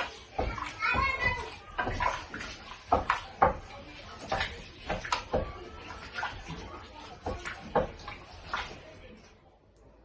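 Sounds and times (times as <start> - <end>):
spoon stirring rice in a pot: 0.0 - 9.3.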